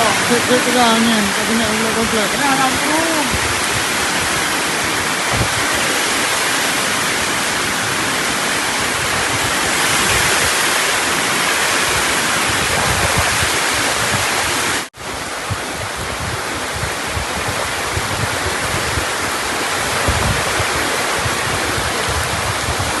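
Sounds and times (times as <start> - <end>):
heavy rain pouring: 0.0 - 23.0
strong wind: 0.0 - 23.0.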